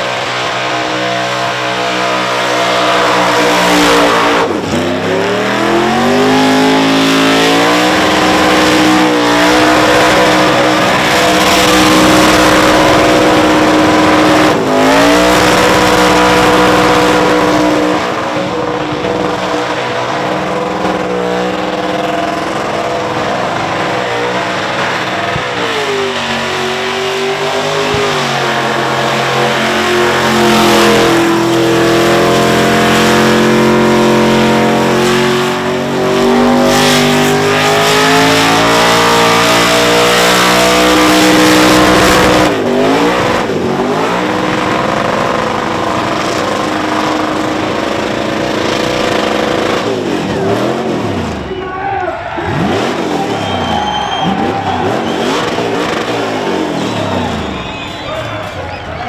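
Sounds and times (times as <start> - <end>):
engine screaming at high revs: 0.0 - 51.6, 52.2 - 58.4.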